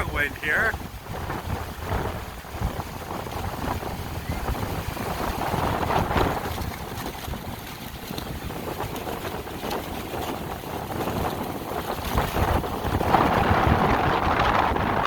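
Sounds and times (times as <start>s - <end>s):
gusting wind buffeting microphone: 0.0s - 15.0s.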